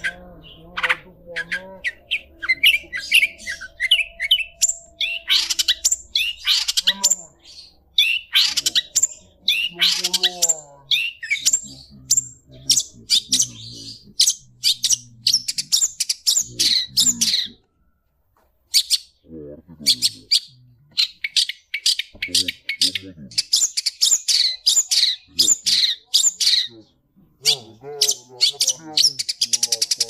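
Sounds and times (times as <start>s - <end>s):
shrike singing rapid chirps: 0.0s - 17.6s, 19.8s - 26.8s, 27.4s - 30.0s.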